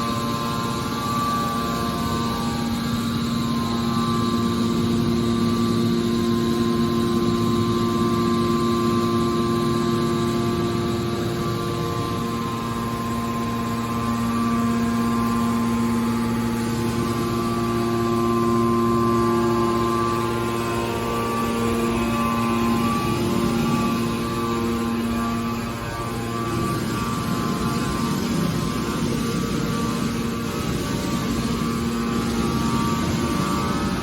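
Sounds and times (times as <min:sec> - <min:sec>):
hydraulic motor and pump humming: 0:00.0 - 0:34.0.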